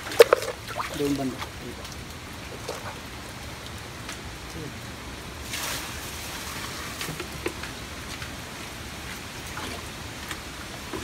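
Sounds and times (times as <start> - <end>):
steady watery hiss: 0.0 - 11.0
water splashing and dripping: 0.0 - 11.0.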